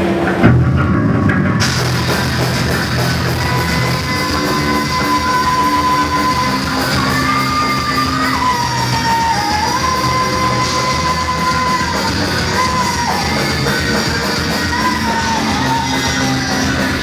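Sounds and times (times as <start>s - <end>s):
distorted electric guitars: 0.0s - 17.0s
drum kit: 0.0s - 17.0s
hard rock band playing: 0.0s - 17.0s.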